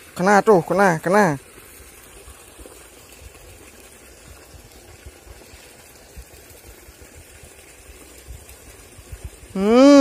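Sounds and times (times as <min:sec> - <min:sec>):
stream running water: 0:00.0 - 0:10.0.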